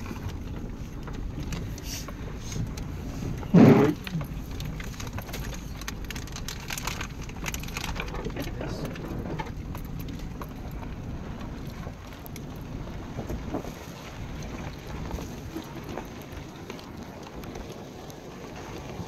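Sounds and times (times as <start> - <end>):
vehicle rumbling on dirt track: 0.0 - 19.0.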